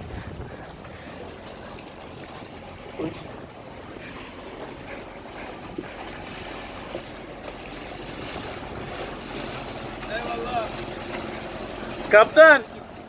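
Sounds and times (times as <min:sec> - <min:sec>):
wind buffeting microphone: 0:00.0 - 0:12.1
boat engine running: 0:00.0 - 0:13.0
water rushing along hull: 0:00.0 - 0:13.0.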